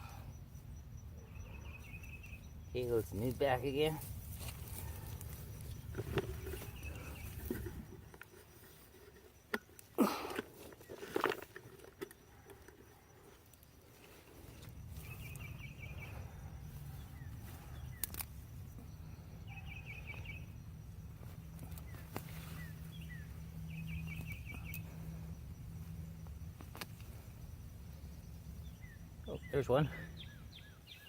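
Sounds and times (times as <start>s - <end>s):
low steady rumble: 0.0s - 9.4s, 12.9s - 30.8s.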